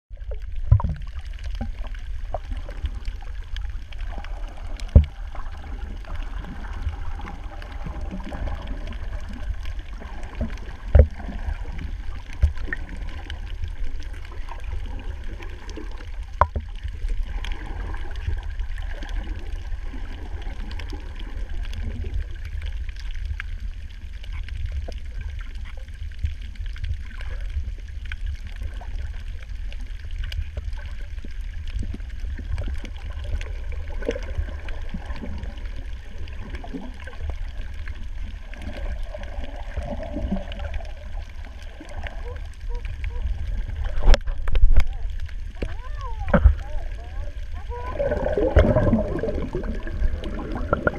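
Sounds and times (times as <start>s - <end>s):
underwater water rumble: 0.0s - 50.9s
faint underwater clicks: 0.1s - 50.9s.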